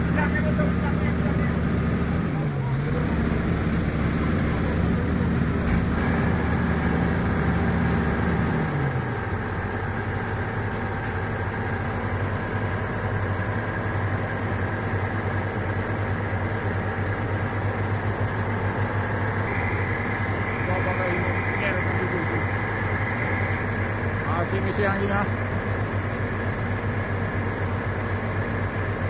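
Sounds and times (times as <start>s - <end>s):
diesel truck engine: 0.0s - 29.0s.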